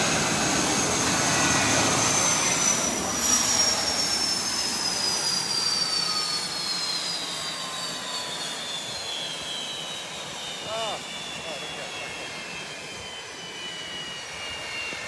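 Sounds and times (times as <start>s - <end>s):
high falling whine: 0.0s - 15.0s
jet engine spooling down: 0.0s - 15.0s
rushing jet noise: 0.0s - 15.0s.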